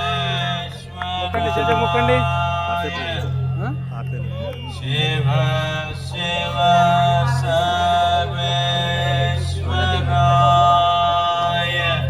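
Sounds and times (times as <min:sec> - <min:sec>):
low drone: 0:00.0 - 0:12.0
person chanting in long notes: 0:00.0 - 0:12.0.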